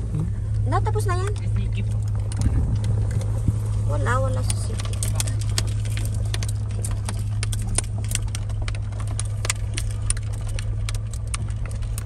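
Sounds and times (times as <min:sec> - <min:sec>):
gravel crunching under tyres: 0:00.0 - 0:12.0
low engine and road hum: 0:00.0 - 0:12.0.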